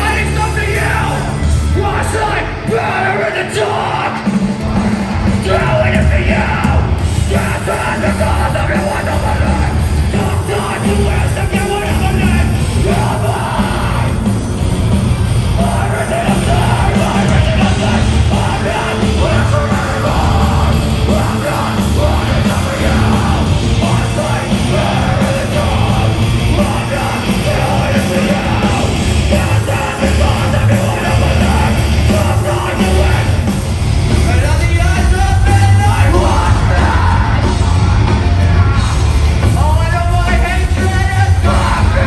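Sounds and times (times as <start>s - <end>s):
distorted guitars: 0.0s - 42.0s
pounding drums: 0.0s - 42.0s.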